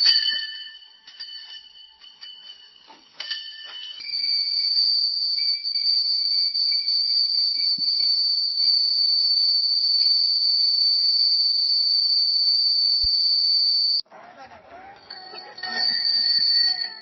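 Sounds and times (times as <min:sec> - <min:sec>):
bicycle bell ringing: 0:00.0 - 0:14.0, 0:15.0 - 0:17.0.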